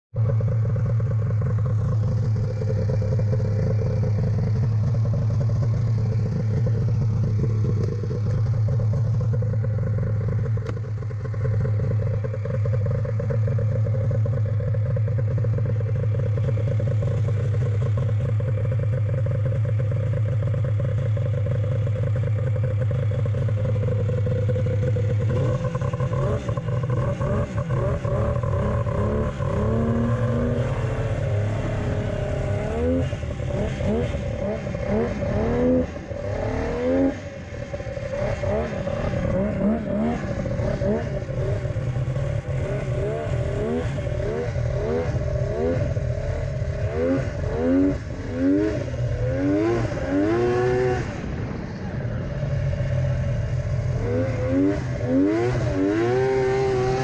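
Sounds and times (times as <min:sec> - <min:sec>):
snowmobile engine idling and revving: 0:00.1 - 0:57.0.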